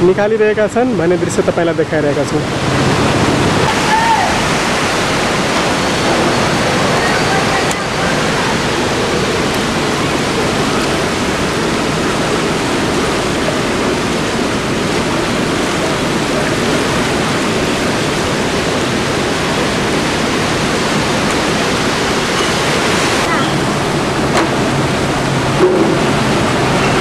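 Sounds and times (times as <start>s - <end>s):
river rushing in flood: 0.0s - 27.0s.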